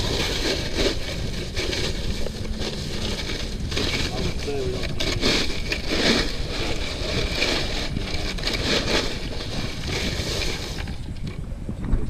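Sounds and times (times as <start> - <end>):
ice crunching in cooler: 0.0 - 11.4
wind rumble on microphone: 0.0 - 12.0.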